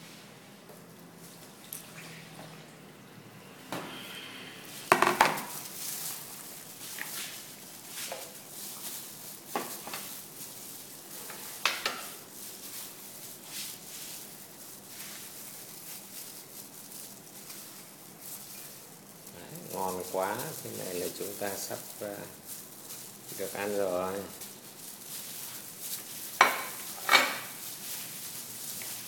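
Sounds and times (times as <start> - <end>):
plastic gloves rustling: 0.0 - 2.2, 4.2 - 29.0
wet squishing of vegetables: 0.8 - 3.0, 4.7 - 29.0.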